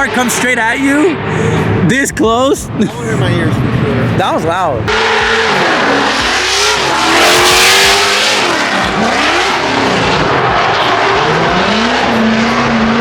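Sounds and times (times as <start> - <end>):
drift car engines revving: 0.0 - 13.0.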